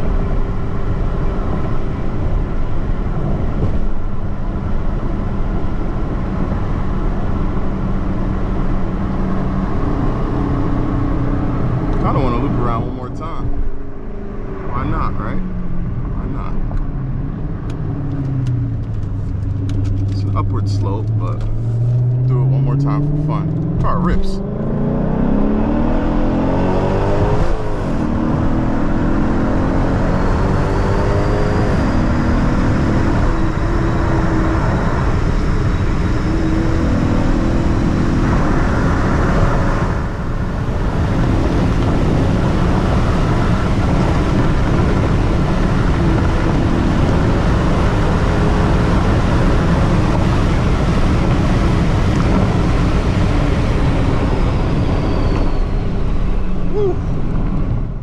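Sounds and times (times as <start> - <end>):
car engine at highway speed: 0.0 - 58.0
road noise inside car cabin: 0.0 - 58.0.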